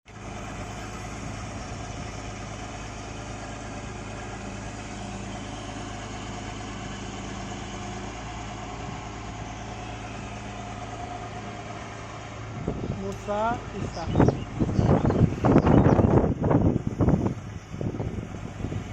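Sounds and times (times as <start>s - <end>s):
excavator engine running: 0.1s - 18.9s.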